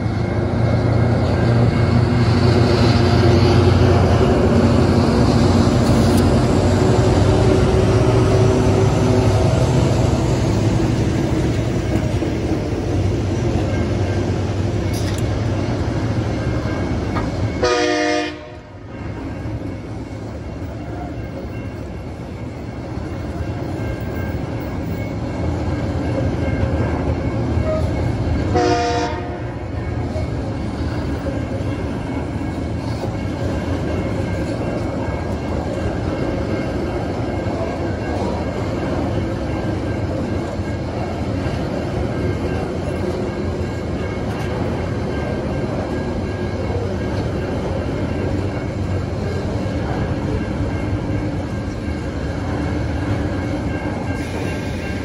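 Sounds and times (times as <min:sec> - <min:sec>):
diesel locomotive engine drone: 0:00.0 - 0:55.0
wagons rumbling over rails: 0:00.0 - 0:55.0.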